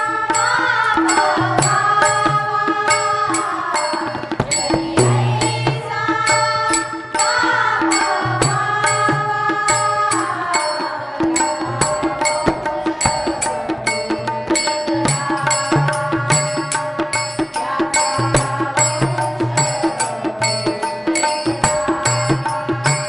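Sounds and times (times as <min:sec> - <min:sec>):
hand cymbals struck: 0:00.0 - 0:23.0
tabla: 0:00.0 - 0:23.0
women singing together: 0:00.0 - 0:23.0.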